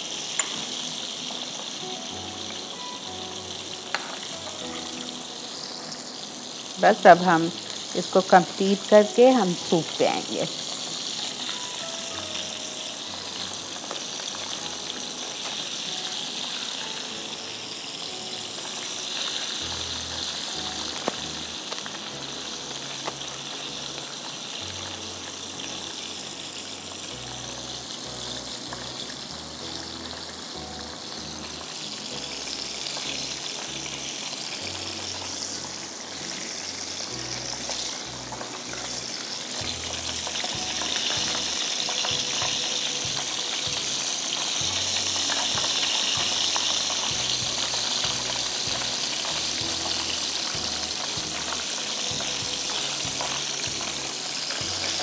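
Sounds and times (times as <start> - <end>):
oil sizzling in a frying pan: 0.0 - 55.0
soft music with bass line: 0.0 - 55.0.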